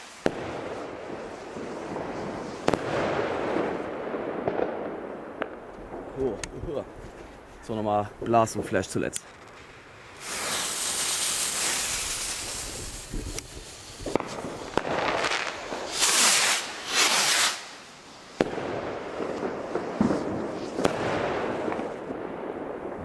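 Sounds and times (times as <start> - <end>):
firework bangs: 0.0 - 7.7, 9.7 - 23.0
firework rockets launching with hiss: 0.0 - 7.7, 8.7 - 23.0.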